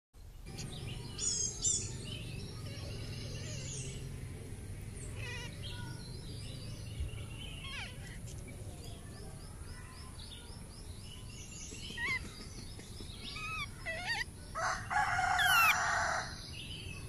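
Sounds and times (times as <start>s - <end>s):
birds chirping and trilling: 0.2s - 17.0s
low background noise: 0.2s - 17.0s.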